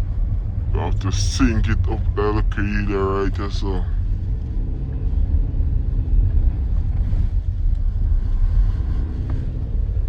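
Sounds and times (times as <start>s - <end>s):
car driving rumble inside cabin: 0.0s - 10.0s.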